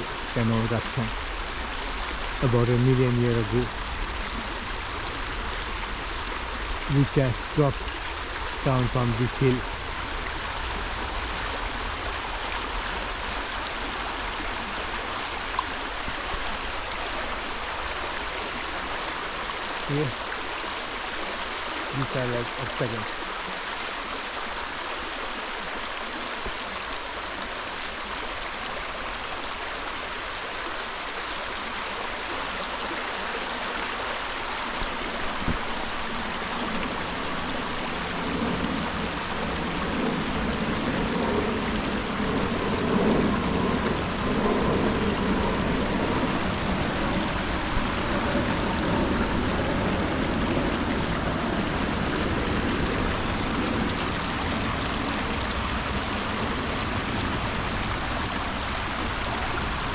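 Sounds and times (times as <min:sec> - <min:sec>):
water running over rocks: 0:00.0 - 0:59.9.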